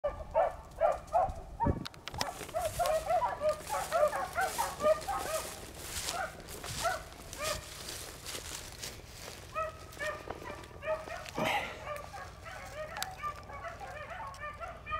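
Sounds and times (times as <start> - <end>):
dogs baying and yelping: 0.0 - 8.1, 9.2 - 14.9.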